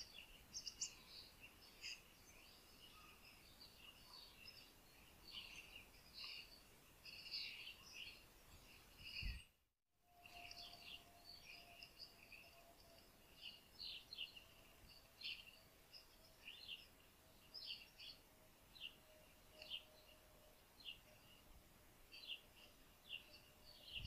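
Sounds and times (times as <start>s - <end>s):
small birds chirping: 0.0s - 9.6s, 10.2s - 24.0s.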